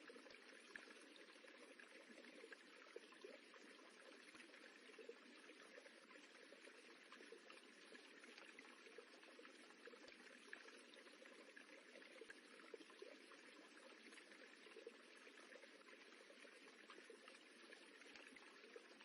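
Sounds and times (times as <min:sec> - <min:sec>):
faint running water rippling: 0:00.0 - 0:19.0.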